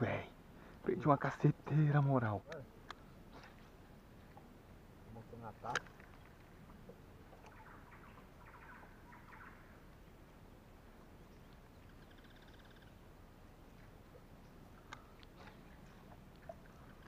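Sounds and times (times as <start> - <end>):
faint birds calling: 2.6 - 17.0.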